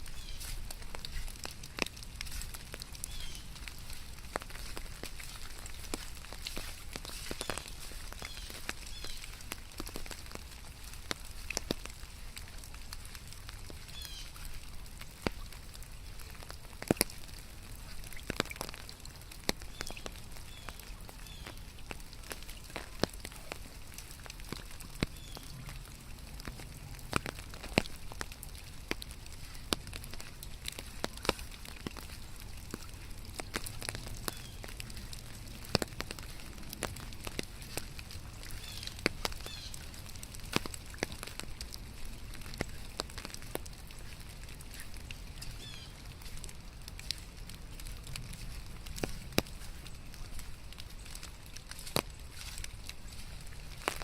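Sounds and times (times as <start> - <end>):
big raindrops tapping: 0.0 - 54.0
steady rain hiss: 0.0 - 54.0.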